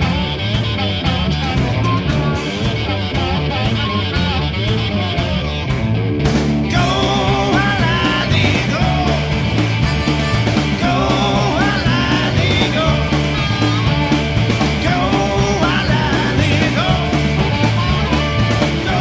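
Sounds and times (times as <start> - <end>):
rock band music: 0.0 - 19.0.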